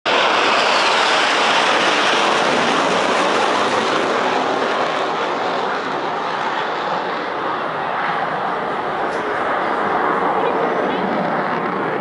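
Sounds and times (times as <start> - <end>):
jet roaring overhead: 0.1 - 12.0.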